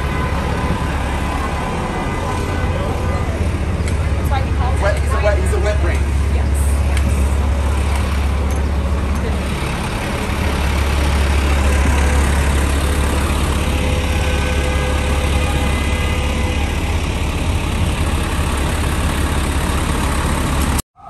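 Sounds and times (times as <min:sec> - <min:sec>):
bus diesel engine idling: 0:00.0 - 0:20.8
street traffic: 0:00.0 - 0:20.8.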